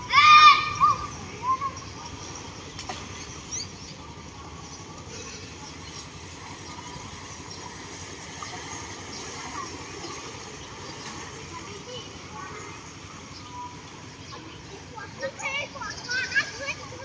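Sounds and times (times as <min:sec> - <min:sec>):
distant children calling: 0:00.0 - 0:17.0
outdoor background noise: 0:00.0 - 0:17.0.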